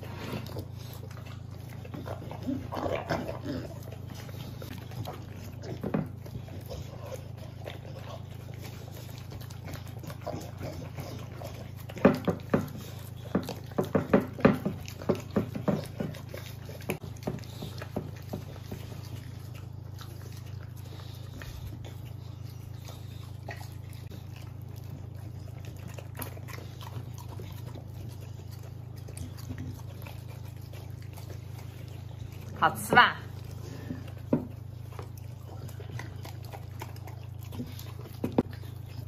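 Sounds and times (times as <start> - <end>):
dogs licking and smacking: 0.0 - 39.0.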